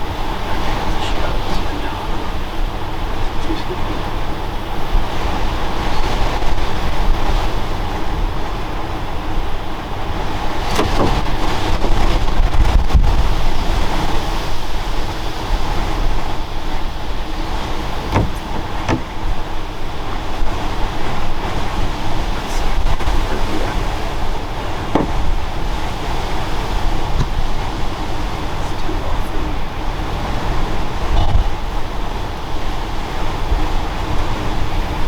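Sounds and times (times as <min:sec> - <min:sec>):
low rumbling noise: 0:00.0 - 0:35.0.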